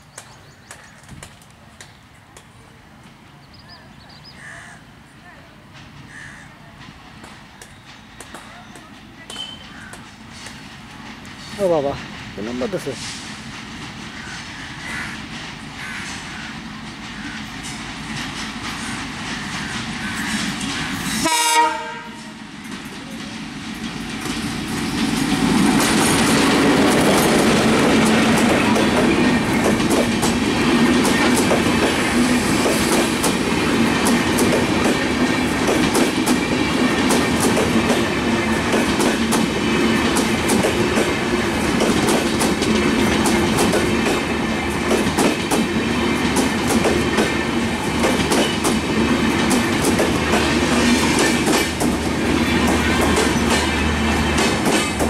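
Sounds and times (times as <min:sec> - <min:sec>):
diesel locomotive engine running: 0:05.6 - 0:55.0
train wheels clacking over rail joints: 0:05.7 - 0:55.0.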